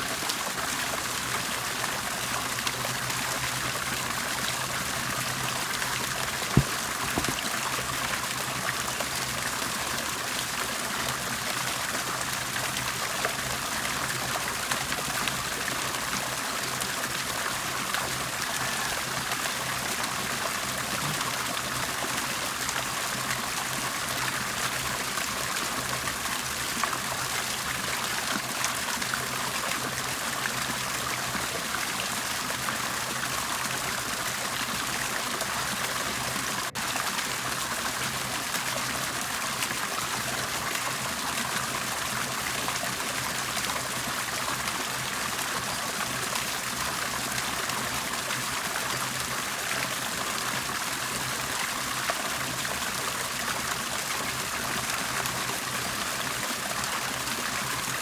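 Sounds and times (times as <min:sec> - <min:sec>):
bubbling trickling water: 0:00.0 - 0:58.0.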